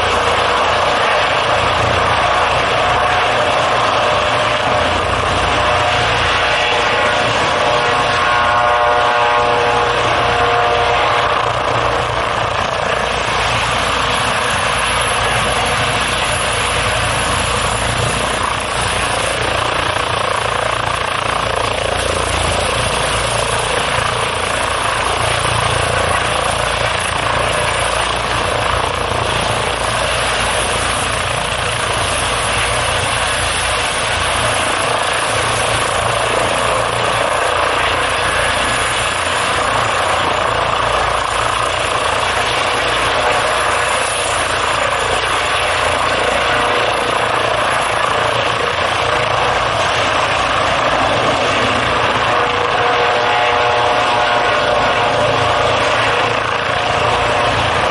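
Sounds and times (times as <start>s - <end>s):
helicopter hovering: 0.0s - 57.9s.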